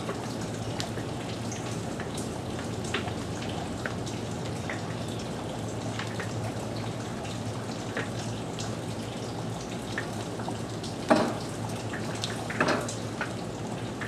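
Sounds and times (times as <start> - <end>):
rain patter: 0.0 - 14.0
water drips: 0.0 - 14.0.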